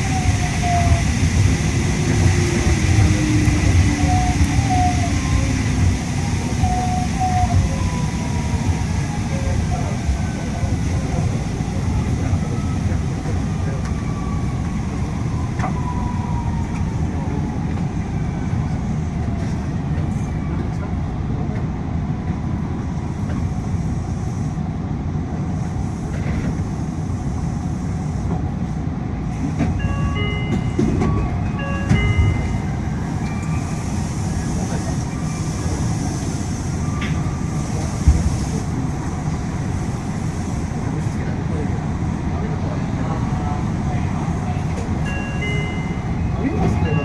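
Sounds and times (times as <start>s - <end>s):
monorail cabin rumble: 0.0s - 47.0s.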